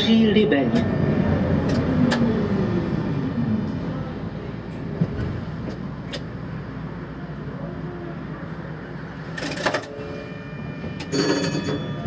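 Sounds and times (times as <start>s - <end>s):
tram humming: 0.0s - 12.0s.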